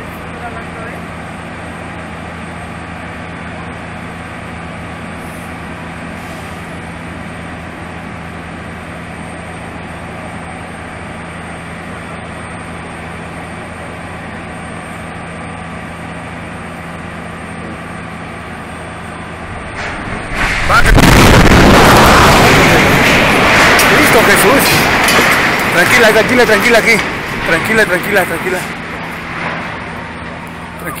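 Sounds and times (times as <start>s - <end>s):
fire engine running: 0.0s - 31.0s.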